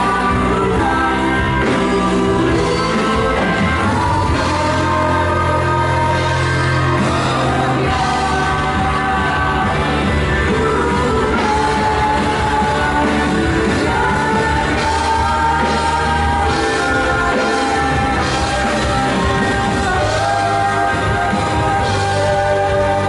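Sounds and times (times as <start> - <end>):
rock band music with singing: 0.0 - 23.0.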